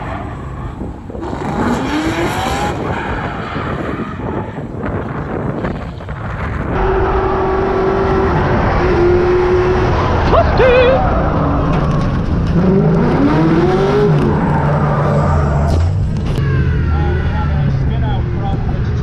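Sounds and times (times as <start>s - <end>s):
car engines at high revs: 0.0s - 19.0s.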